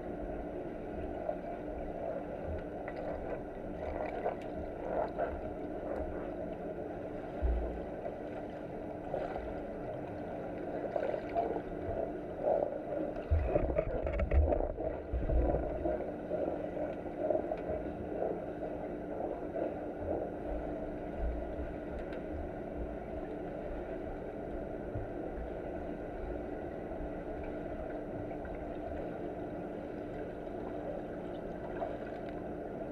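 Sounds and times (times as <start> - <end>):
muffled underwater rumble: 0.0 - 32.9.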